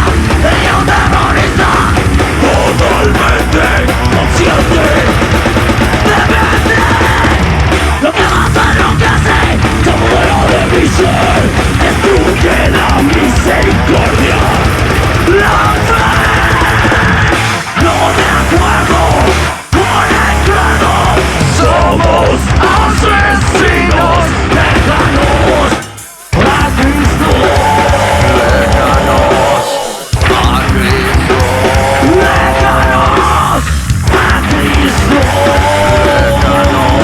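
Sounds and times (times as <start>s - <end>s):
metal band playing loud: 0.0s - 37.0s
shouted vocals: 0.0s - 37.0s.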